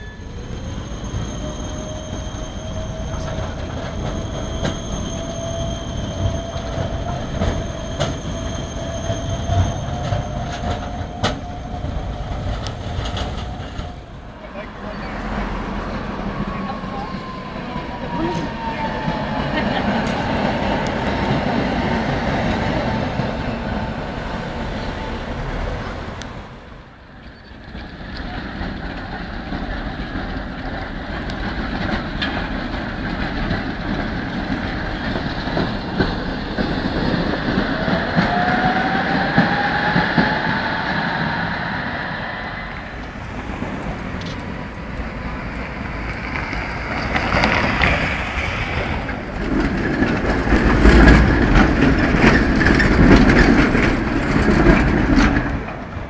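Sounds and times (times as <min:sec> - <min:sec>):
tram electric motor whine: 0:00.0 - 0:56.0
tram wheels clattering on rails: 0:00.0 - 0:56.0.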